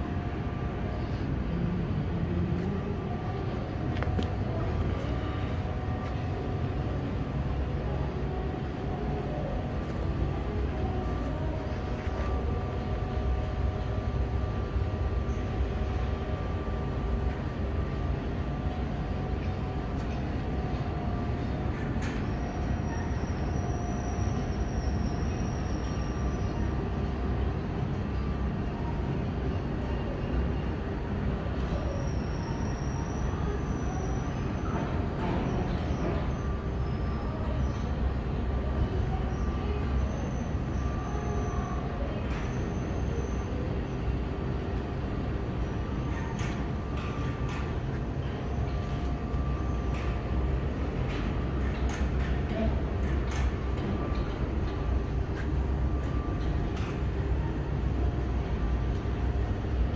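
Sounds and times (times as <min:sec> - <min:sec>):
constant hum: 0:00.0 - 0:59.9
machinery rumble: 0:00.0 - 0:59.9.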